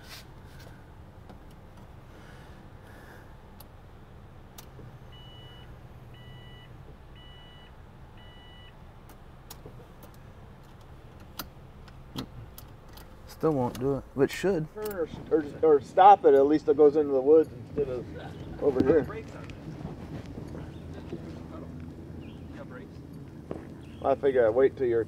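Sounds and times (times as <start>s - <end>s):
steady low rumble: 0.3s - 25.0s.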